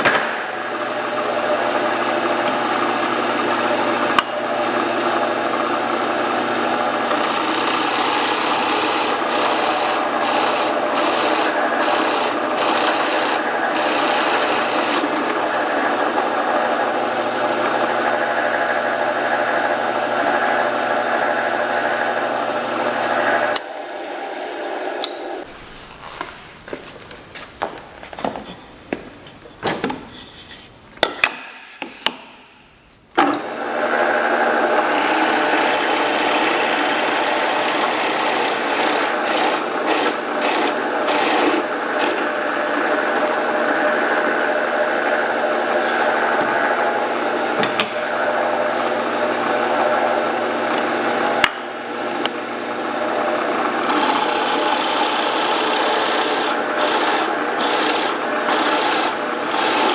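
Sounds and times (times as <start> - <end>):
power tool working wood: 0.0 - 26.8, 33.2 - 59.9.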